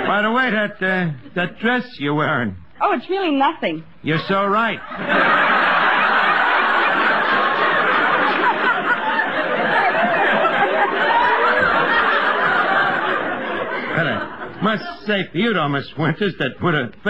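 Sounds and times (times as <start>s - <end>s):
audience laughing: 0.0s - 1.6s, 4.1s - 17.0s.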